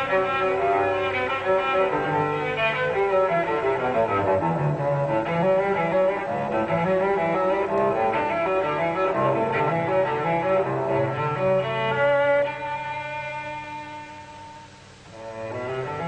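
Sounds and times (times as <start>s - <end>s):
bowed string music: 0.0s - 16.0s.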